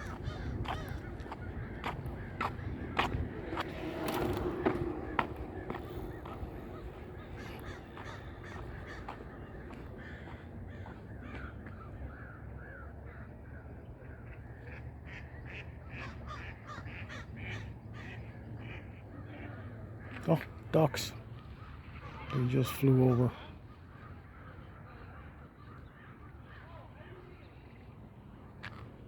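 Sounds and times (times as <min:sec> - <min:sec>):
crows cawing: 0:00.0 - 0:26.7.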